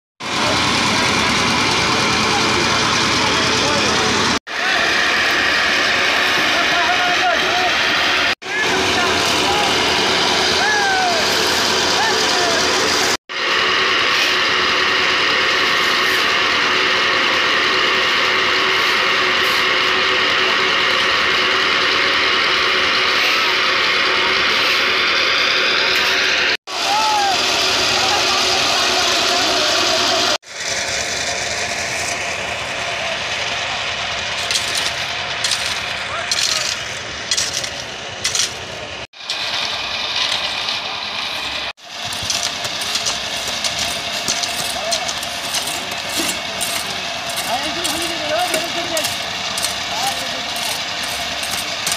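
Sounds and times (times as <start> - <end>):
concrete mixer running: 0.2 - 51.9.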